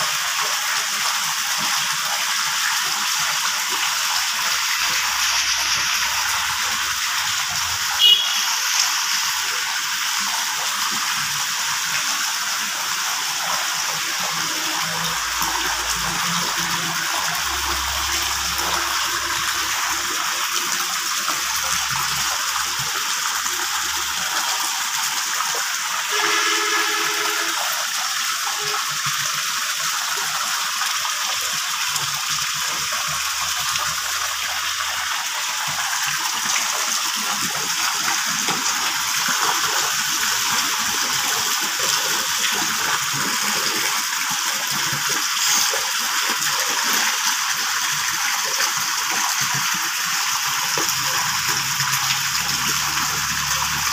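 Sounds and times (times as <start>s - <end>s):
water gushing into fish tank: 0.0s - 53.9s.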